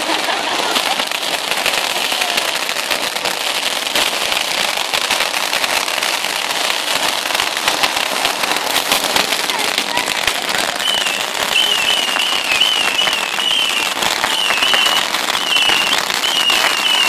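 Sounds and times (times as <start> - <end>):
firework fountains crackling hiss: 0.0 - 17.0.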